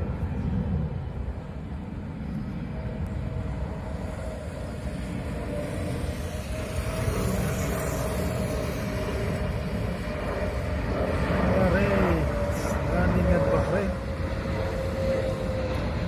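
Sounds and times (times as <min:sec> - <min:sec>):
jet engines rumbling: 0:00.0 - 0:16.0
thin engine whine: 0:00.0 - 0:16.0.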